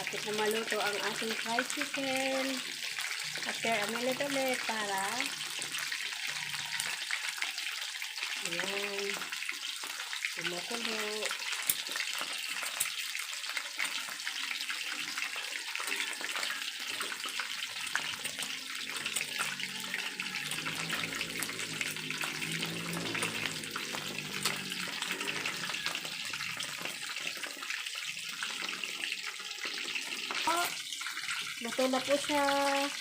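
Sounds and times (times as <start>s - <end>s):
chicken deep-frying in oil: 0.0s - 33.0s.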